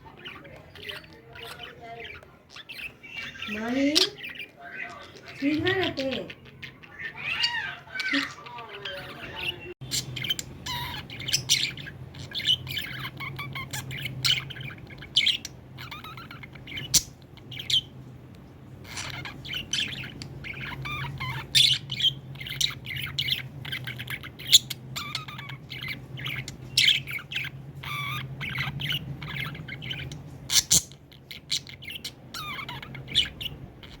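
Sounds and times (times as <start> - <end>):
budgerigar chirping: 0.0 - 18.1, 18.7 - 34.0.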